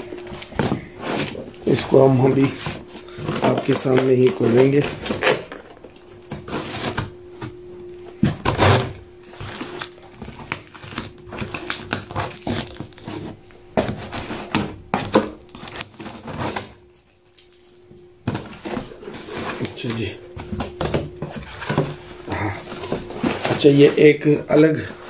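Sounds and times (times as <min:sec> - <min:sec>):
packing tape tearing: 0:00.0 - 0:07.6, 0:08.2 - 0:25.0.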